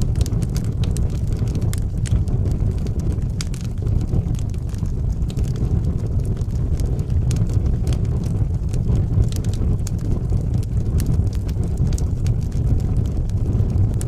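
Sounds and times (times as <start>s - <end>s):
fire crackling and popping: 0.0s - 14.0s
low fire rumble: 0.0s - 14.0s.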